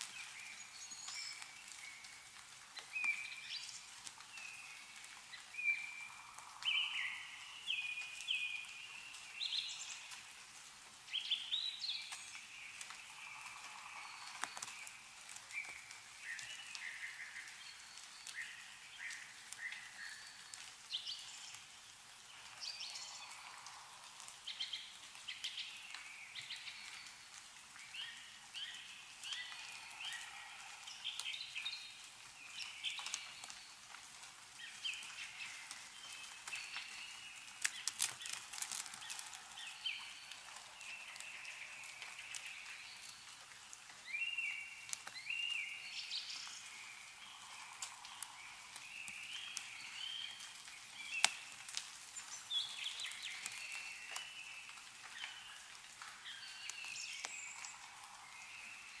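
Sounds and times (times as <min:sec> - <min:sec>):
melting snow dripping: 0:00.0 - 0:59.0
small birds chirping: 0:00.0 - 0:59.0.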